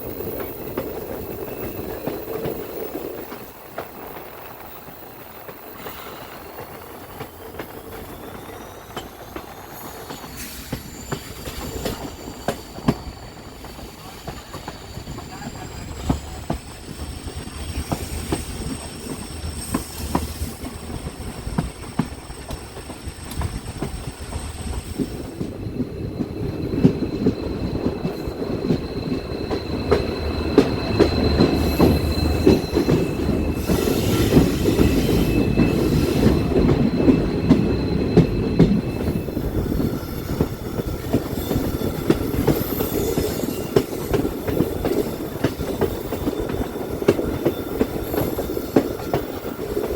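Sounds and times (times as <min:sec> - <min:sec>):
high wheel squeal: 0:00.0 - 0:49.9
train rumbling on rails: 0:00.0 - 0:49.9
wheels clicking over rail joints: 0:00.0 - 0:49.9.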